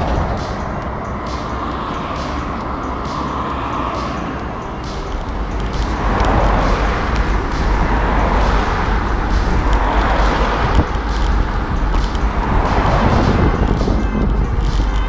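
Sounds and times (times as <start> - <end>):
cars passing close by: 0.0 - 15.0
steady low rumble: 0.0 - 15.0.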